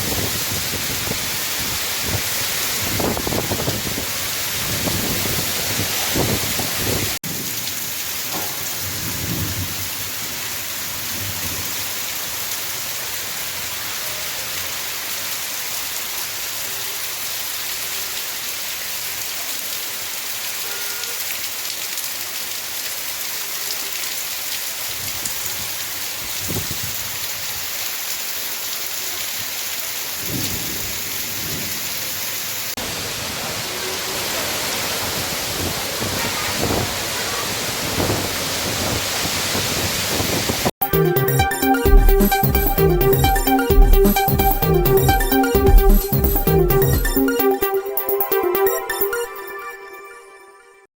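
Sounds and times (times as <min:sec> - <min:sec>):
heavy rain pouring: 0:00.0 - 0:49.2.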